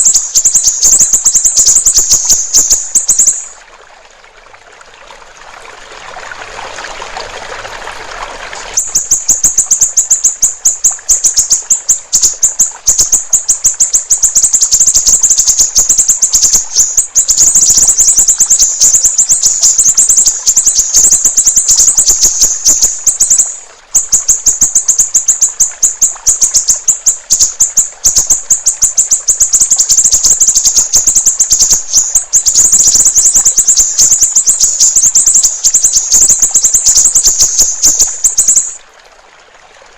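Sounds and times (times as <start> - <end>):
running water trickle: 0.0 - 39.9.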